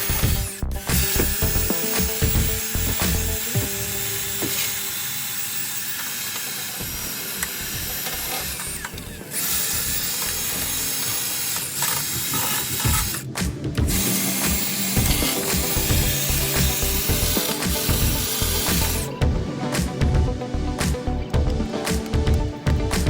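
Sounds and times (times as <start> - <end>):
tool working on metal: 0.0 - 23.0.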